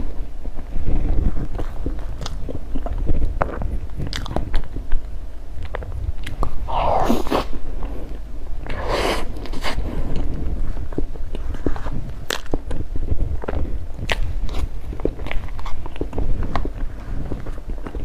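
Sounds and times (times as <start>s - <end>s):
chewing and crunching food: 0.0s - 18.0s.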